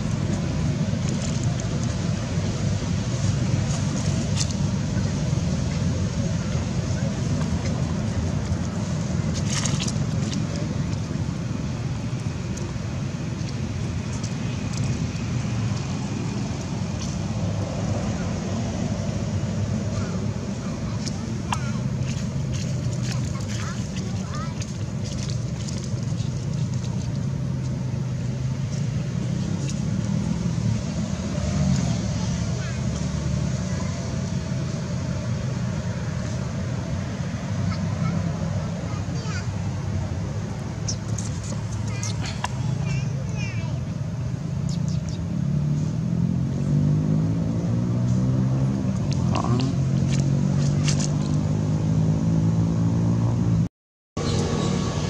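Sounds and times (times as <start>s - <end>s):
low rumbling background noise: 0.0s - 55.0s.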